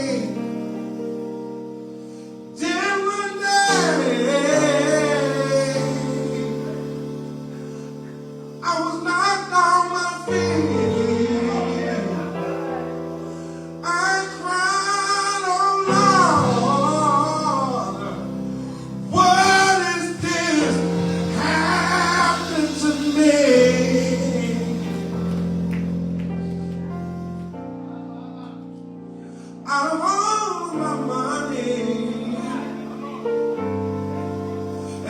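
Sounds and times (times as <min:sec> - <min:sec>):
solo voice singing gospel: 0:00.0 - 0:35.0
sustained accompanying chords: 0:00.0 - 0:35.0.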